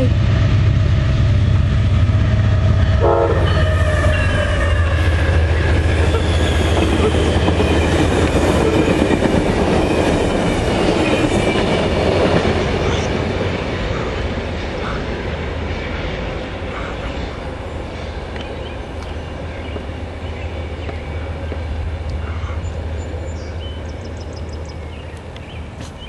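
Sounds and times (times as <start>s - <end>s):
diesel locomotive engine droning: 0.0s - 26.0s
steel wheels rumbling on rails: 0.0s - 26.0s.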